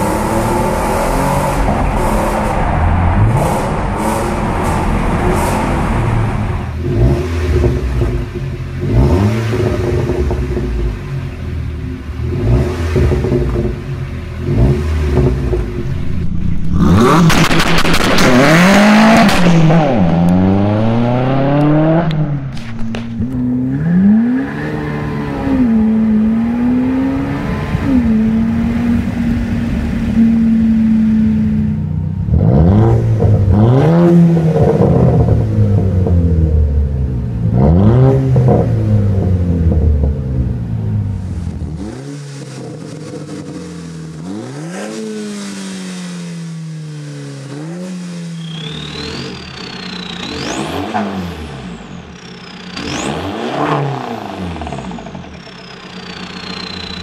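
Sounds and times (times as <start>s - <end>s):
car engine revving: 0.0s - 57.0s
car accelerating with gearshifts: 3.2s - 11.4s, 12.1s - 31.6s, 32.2s - 57.0s.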